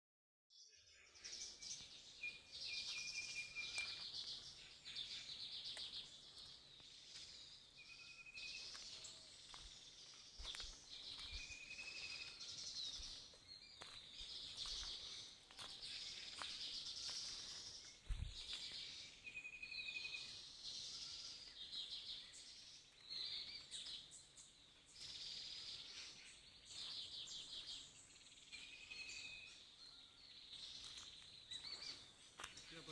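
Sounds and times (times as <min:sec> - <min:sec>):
birds chirping and trilling: 0:00.6 - 0:32.9.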